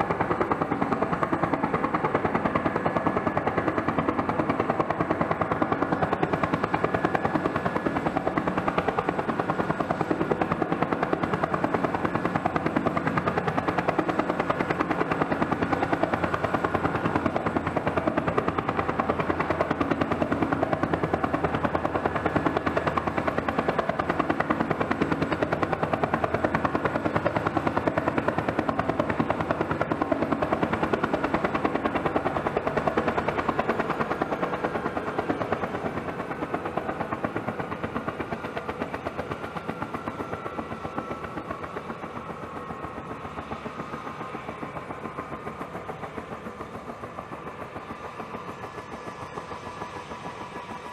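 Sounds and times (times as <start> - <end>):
helicopter rotor beat: 0.0 - 50.9
turbine whine: 0.0 - 50.9.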